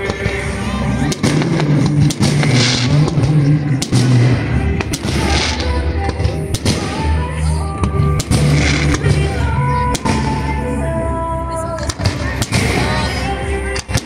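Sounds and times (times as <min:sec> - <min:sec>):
fireworks bangs: 0:00.0 - 0:10.8, 0:11.7 - 0:14.0
music playing: 0:00.0 - 0:14.0.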